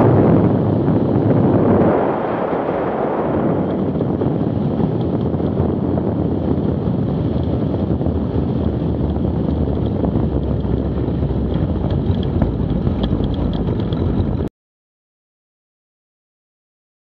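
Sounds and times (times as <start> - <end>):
light aircraft rumble: 0.0 - 14.5
wind rushing over microphone: 0.0 - 14.5.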